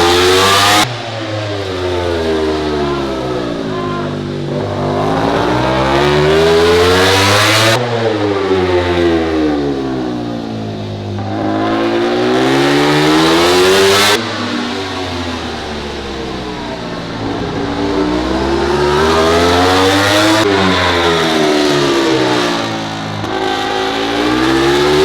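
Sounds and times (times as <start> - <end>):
racing motorcycles passing at speed: 0.0 - 25.0.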